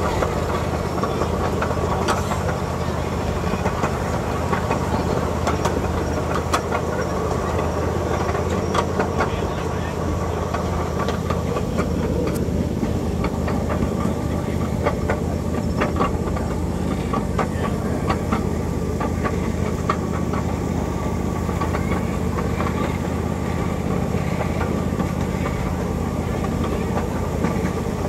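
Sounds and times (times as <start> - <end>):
low engine drone: 0.0 - 28.0
wheels clicking and clacking: 0.0 - 28.0.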